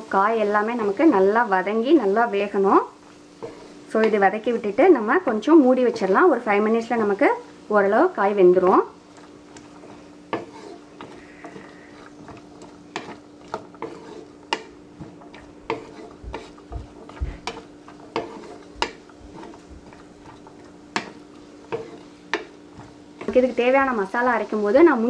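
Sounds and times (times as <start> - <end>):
spatula scraping frying pan: 0.6 - 25.0.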